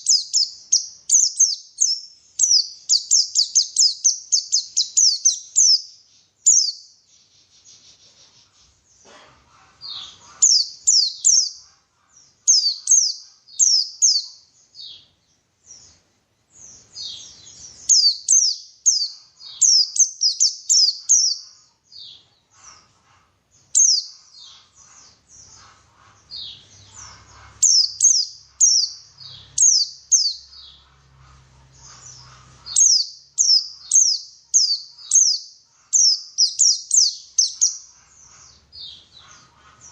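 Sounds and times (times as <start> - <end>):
bird singing high chirps: 0.0 - 8.8, 9.9 - 22.8, 23.6 - 30.9, 31.8 - 39.9.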